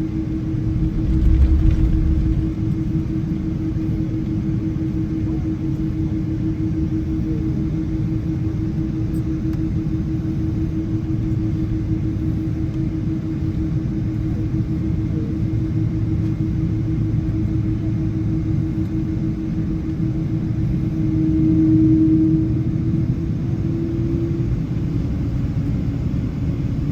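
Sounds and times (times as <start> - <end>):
airplane cabin rumble and hum: 0.0 - 26.9.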